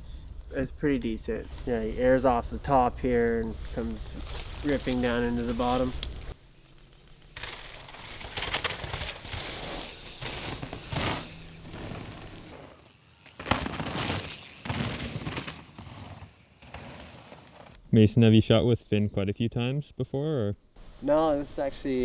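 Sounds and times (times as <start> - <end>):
bike tyres crunching over dirt: 0.0 - 17.8.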